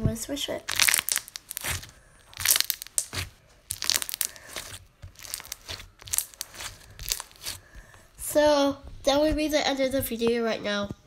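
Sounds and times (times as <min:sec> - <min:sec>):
slime squishing by hand: 0:00.4 - 0:10.3.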